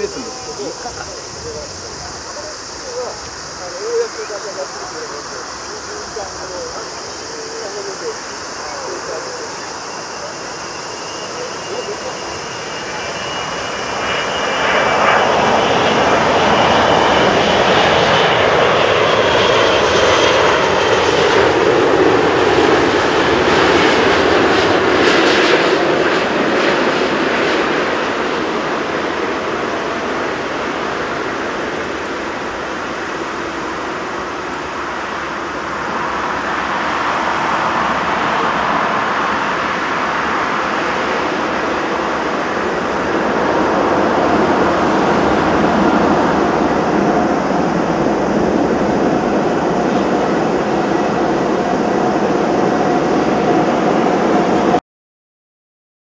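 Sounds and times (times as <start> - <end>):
jet engine noise: 0.0 - 54.8.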